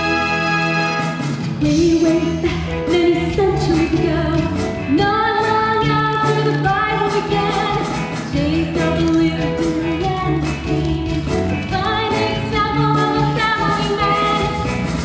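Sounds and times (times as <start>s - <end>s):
woman singing: 1.6s - 14.8s.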